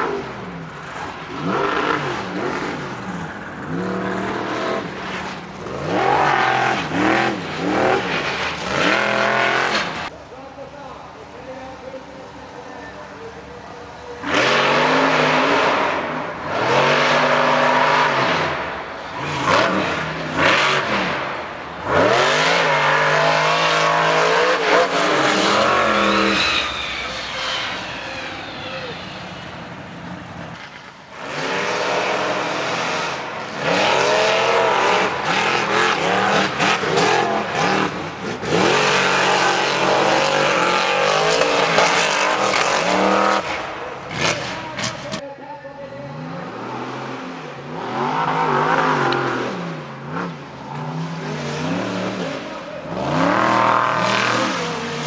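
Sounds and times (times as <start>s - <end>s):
monster truck engines revving: 0.0s - 10.4s, 11.1s - 45.3s, 45.9s - 55.0s.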